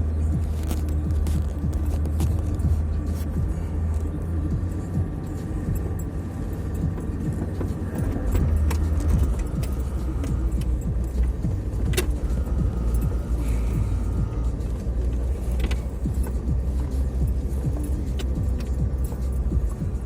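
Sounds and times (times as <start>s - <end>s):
car engine droning: 0.0s - 20.0s
rattles and knocks from car body: 0.3s - 3.6s, 4.5s - 20.0s.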